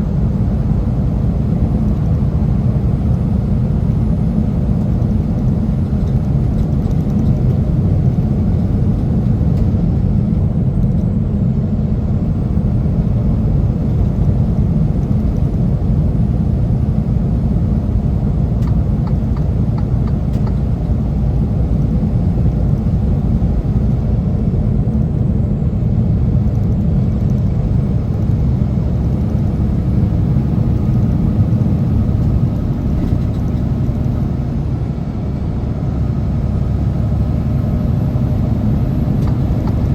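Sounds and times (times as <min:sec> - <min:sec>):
heavy truck driving: 0:00.0 - 0:39.9.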